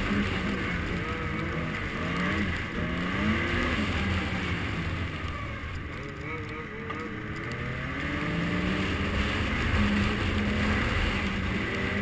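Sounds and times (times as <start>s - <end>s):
snowmobile engine running: 0.0s - 12.0s
steady rushing noise: 0.0s - 12.0s.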